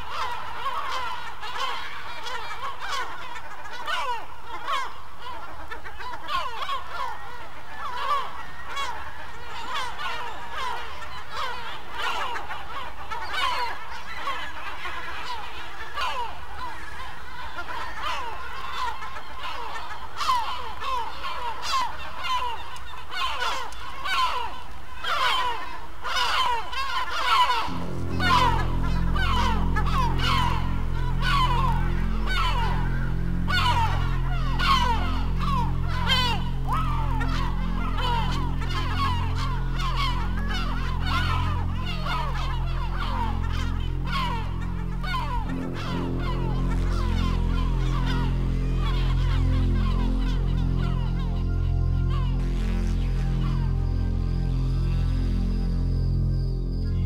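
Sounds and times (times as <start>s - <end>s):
gulls calling: 0.0s - 57.0s.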